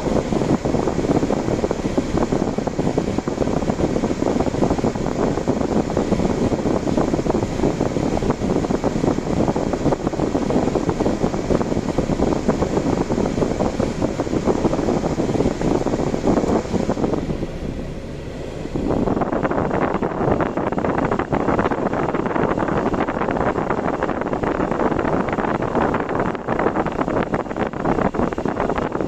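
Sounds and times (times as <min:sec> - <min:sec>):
car road and wind noise: 0:00.0 - 0:29.0.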